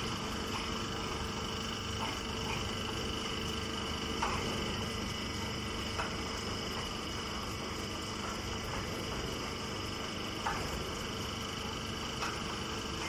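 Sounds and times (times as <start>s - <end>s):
mechanical hum of baling machine: 0.0s - 13.0s.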